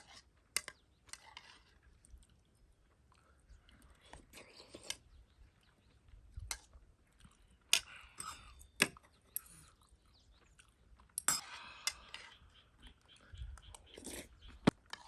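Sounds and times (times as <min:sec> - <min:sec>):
quiet chewing: 0:00.0 - 0:15.0.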